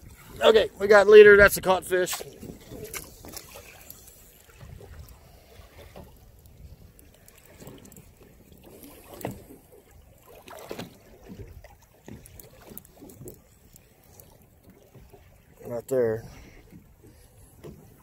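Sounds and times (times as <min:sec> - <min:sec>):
water lapping against boat: 0:00.0 - 0:18.0.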